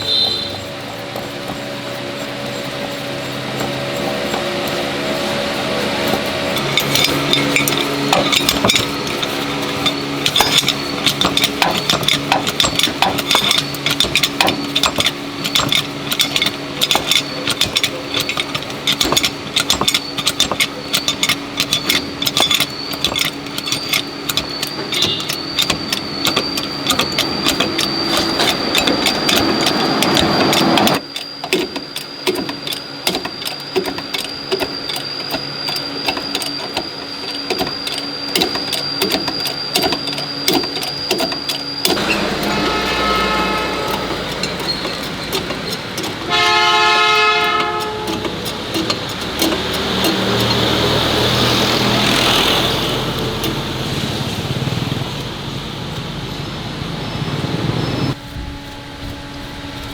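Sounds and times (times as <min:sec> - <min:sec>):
rapid clicking: 0:00.0 - 0:54.1
power tool motor whining: 0:00.0 - 0:59.9.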